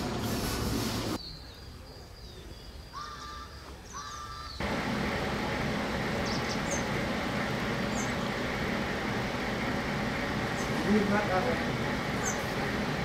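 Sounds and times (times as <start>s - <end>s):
steady outdoor background noise: 0.0s - 13.0s.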